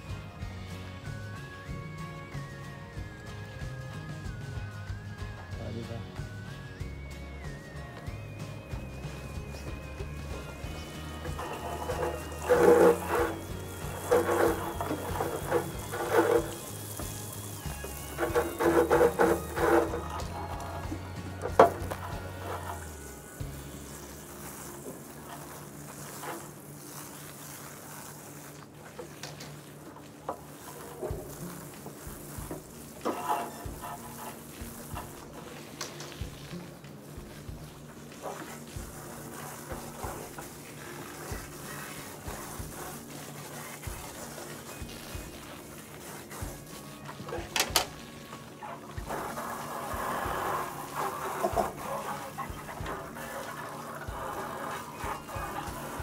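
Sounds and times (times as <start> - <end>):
hose water spraying on plastic: 0.0 - 56.0.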